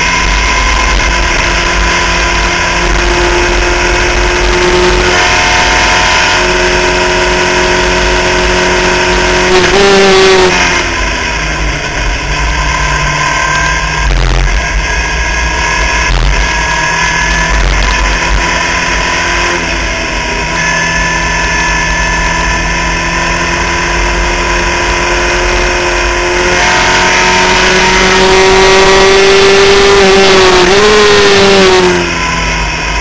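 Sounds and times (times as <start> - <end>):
race car engine at full throttle: 0.0 - 33.0.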